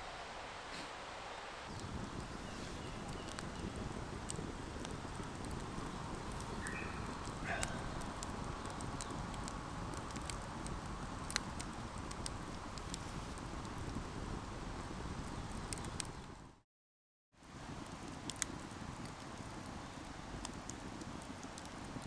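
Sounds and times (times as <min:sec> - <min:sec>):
campfire crackling: 0:00.0 - 0:16.6, 0:17.4 - 0:22.0.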